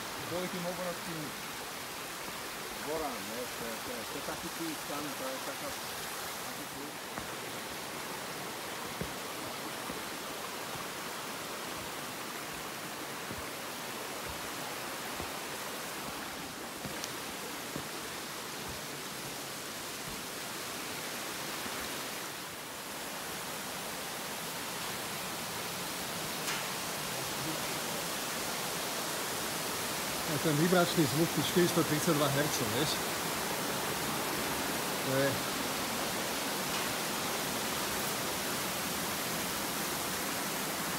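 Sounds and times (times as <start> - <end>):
mountain stream rushing: 0.0 - 40.9.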